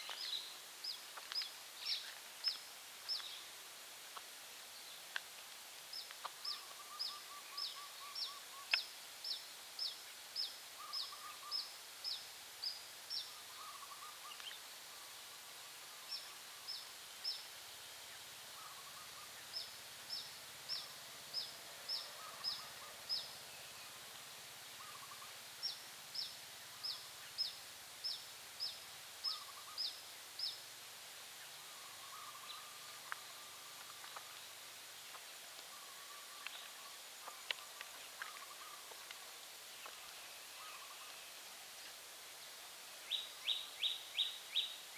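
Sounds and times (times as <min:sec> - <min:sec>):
faint outdoor hiss: 0:00.0 - 0:44.9.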